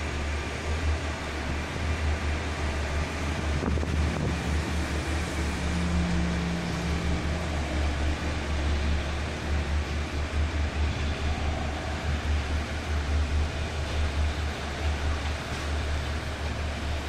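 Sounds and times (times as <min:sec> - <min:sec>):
train running on tracks: 0:00.0 - 0:17.0
wind buffeting microphone: 0:00.0 - 0:17.0.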